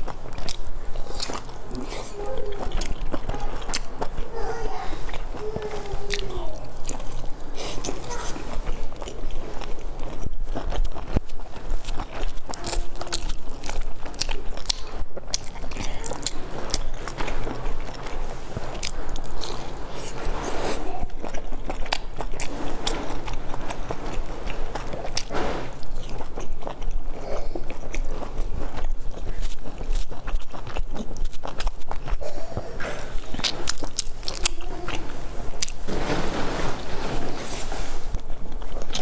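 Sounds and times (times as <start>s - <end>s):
biting and chewing a bun: 0.0s - 39.0s.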